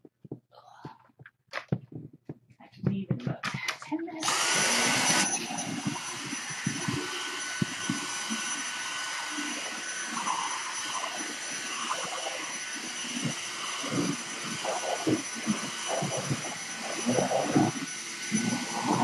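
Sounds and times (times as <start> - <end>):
vacuum cleaner whining: 3.5 - 19.0.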